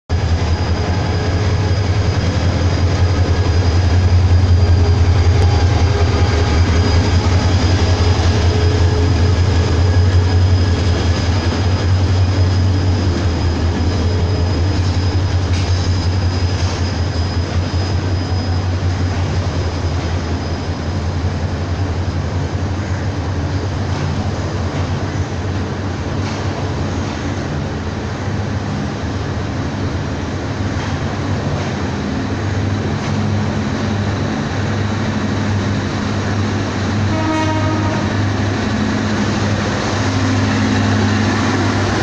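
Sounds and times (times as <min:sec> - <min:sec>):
diesel locomotive engine humming: 0:00.1 - 0:42.0
train coaches rolling past: 0:00.1 - 0:42.0.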